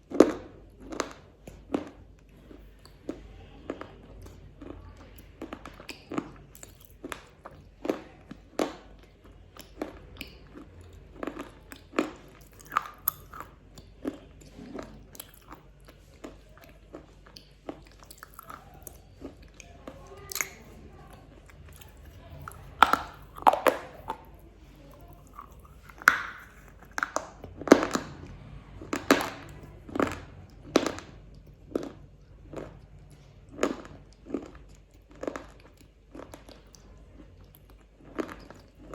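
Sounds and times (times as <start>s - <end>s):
chocolate wafer crunching: 0.0s - 38.9s.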